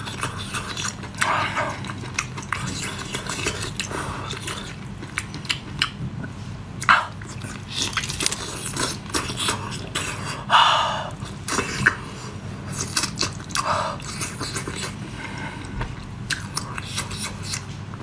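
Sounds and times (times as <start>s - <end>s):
chewing with wet mouth clicks: 0.0s - 10.2s, 12.7s - 15.0s, 15.6s - 17.7s.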